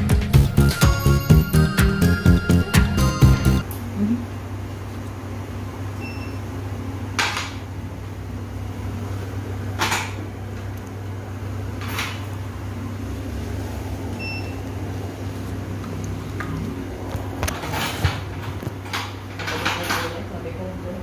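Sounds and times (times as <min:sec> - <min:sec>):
low hum of clinic equipment: 0:03.6 - 0:21.0.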